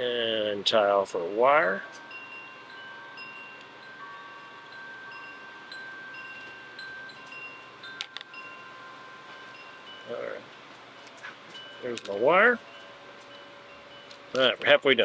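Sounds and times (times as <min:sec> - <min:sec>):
faint background hiss: 0:00.0 - 0:15.0
wind chimes ringing: 0:00.0 - 0:15.0.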